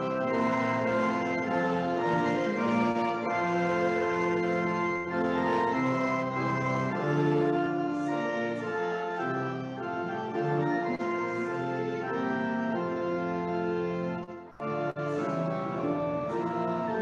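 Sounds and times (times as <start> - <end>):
organ playing hymn chords: 0.0 - 17.0.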